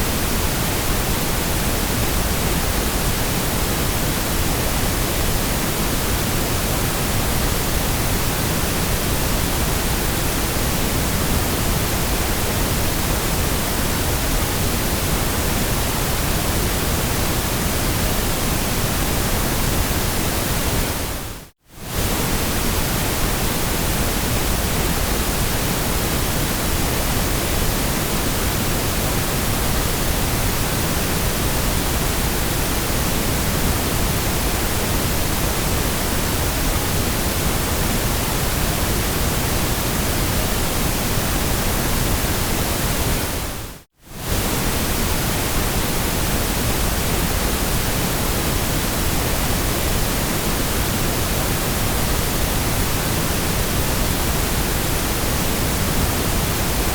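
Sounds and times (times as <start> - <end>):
steady white noise hiss: 0.0 - 56.9.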